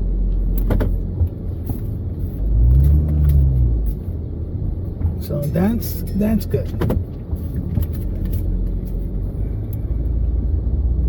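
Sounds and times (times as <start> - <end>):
minivan engine rumbling: 0.0 - 11.0.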